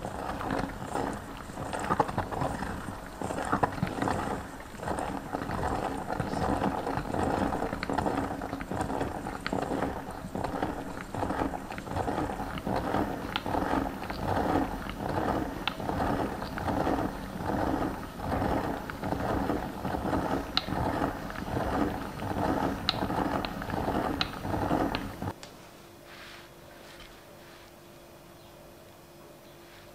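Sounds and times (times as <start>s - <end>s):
meat grinder squelching and creaking: 0.0s - 25.4s.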